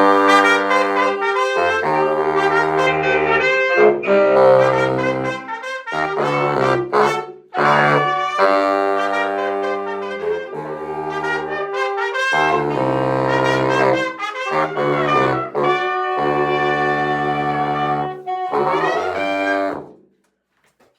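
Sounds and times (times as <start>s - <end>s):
baritone sax low notes: 0.0s - 20.0s
saxophones and trumpet playing salsa: 0.0s - 20.0s.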